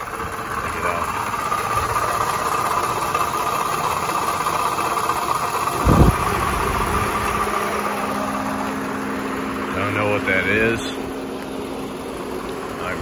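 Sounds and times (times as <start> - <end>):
car engine idling: 0.0 - 13.0
rattling from drive belt: 0.0 - 13.0.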